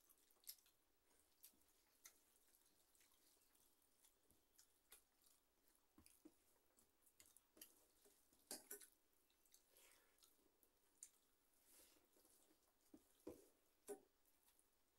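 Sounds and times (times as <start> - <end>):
fingers mixing food on steel plates: 0.0 - 14.6
quiet chewing: 0.0 - 14.9.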